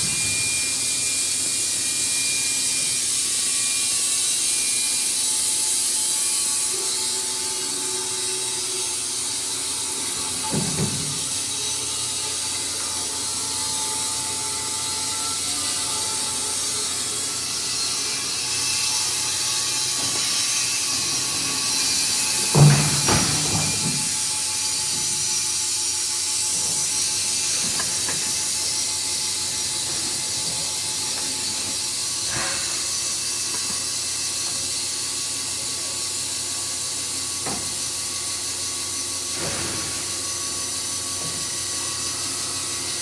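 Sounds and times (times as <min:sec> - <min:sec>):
band saw cutting log: 0:00.0 - 0:43.0.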